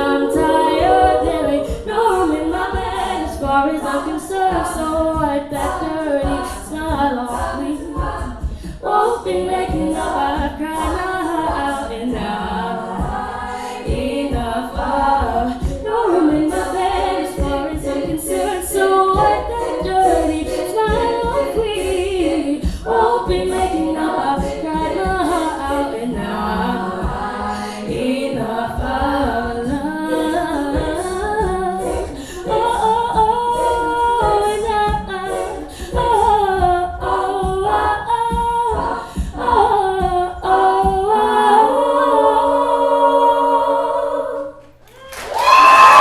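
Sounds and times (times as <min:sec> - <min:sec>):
a cappella group singing in harmony: 0:00.0 - 0:46.0
vocal percussion beat: 0:00.0 - 0:46.0.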